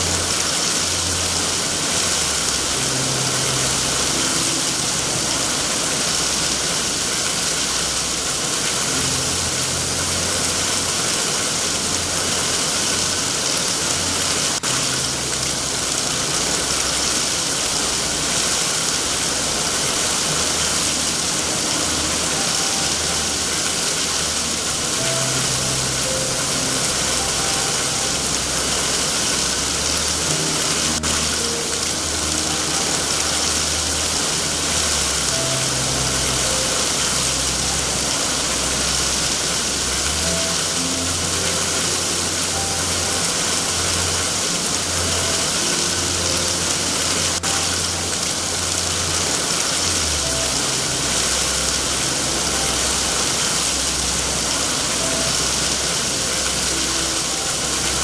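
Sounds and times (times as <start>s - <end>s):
heavy rain hissing: 0.0s - 58.0s
soft slow background music: 0.0s - 58.0s.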